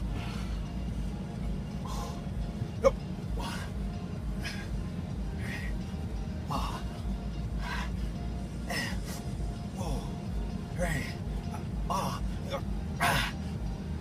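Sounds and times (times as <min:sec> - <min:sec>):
man breathing hard: 0:00.0 - 0:01.1, 0:01.7 - 0:13.9
low rumble: 0:00.0 - 0:14.0.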